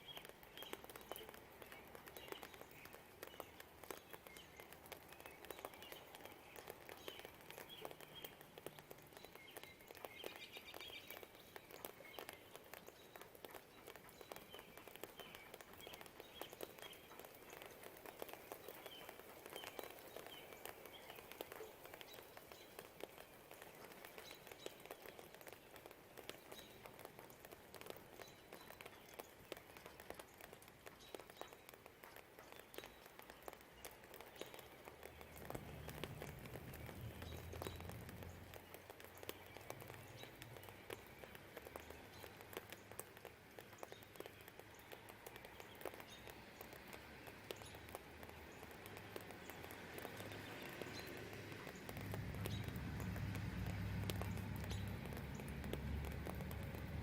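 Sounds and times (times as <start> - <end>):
drops ticking on surfaces: 0.0 - 57.0
light rain pattering: 0.0 - 57.0.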